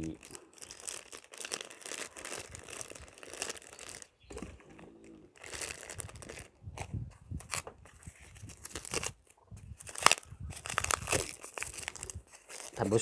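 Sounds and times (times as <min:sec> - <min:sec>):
plastic bag crinkling: 0:00.0 - 0:13.0
plastic wrap handled: 0:00.0 - 0:13.0.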